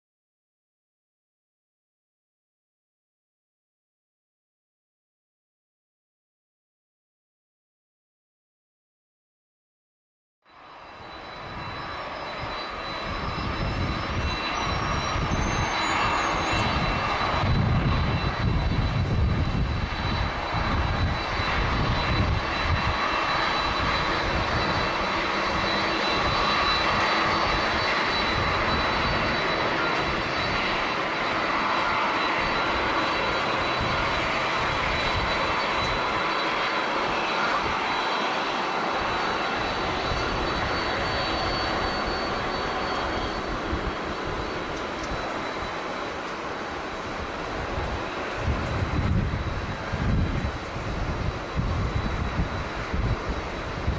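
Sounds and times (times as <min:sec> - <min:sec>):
high engine whine: 0:10.5 - 0:53.9
jet engines running: 0:10.5 - 0:53.9.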